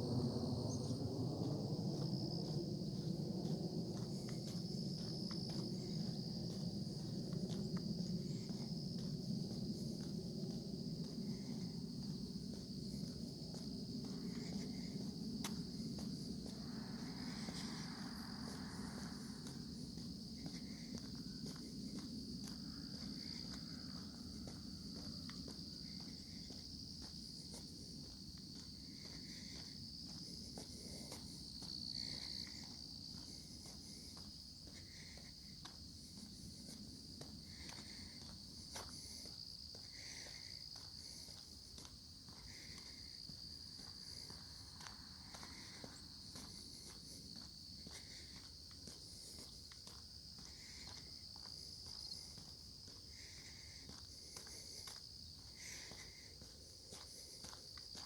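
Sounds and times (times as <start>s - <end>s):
high-pitched insect chorus: 0.0s - 58.0s
footsteps walking: 1.4s - 58.0s.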